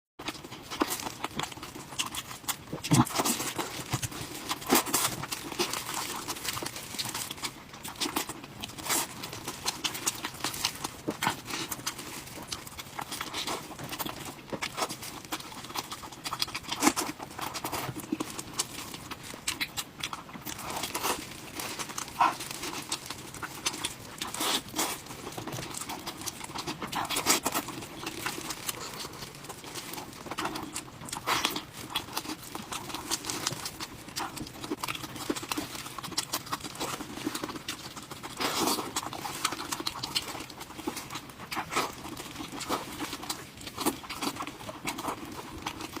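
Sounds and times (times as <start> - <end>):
person chewing: 0.2 - 46.0.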